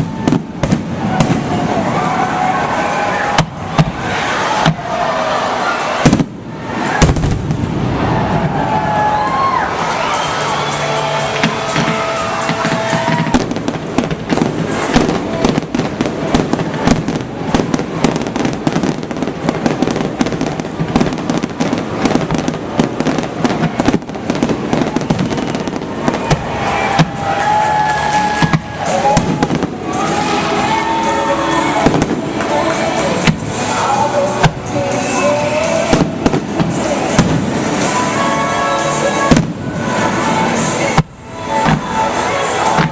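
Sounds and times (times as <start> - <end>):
fireworks bangs and crackles: 0.0 - 42.9
music playing: 0.0 - 42.9.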